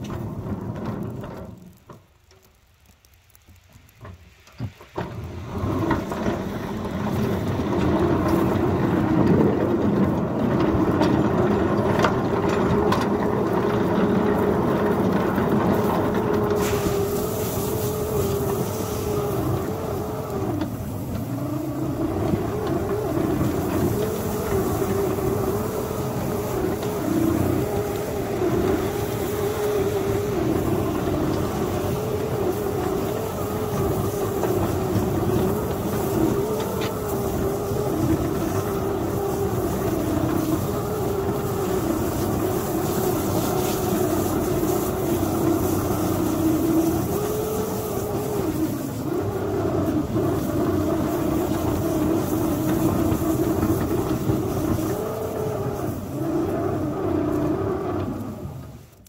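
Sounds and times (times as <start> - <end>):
snow scraping against plow: 0.0 - 2.2, 3.3 - 59.0
miniature locomotive drone: 0.0 - 59.0.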